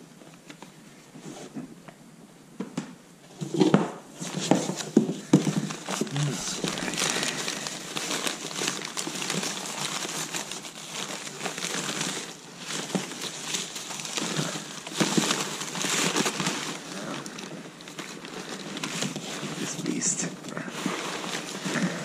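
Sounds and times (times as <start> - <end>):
packing paper rustling: 3.4 - 22.0.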